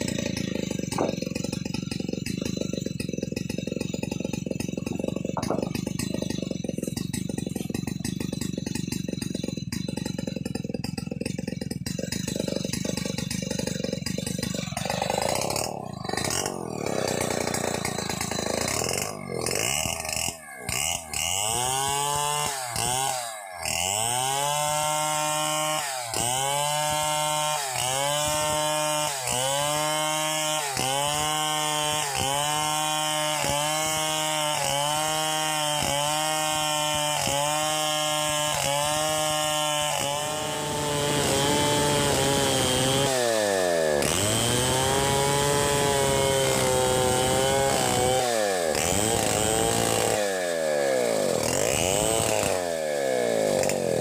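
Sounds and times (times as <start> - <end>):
chainsaw ripping a log: 0.0 - 54.0.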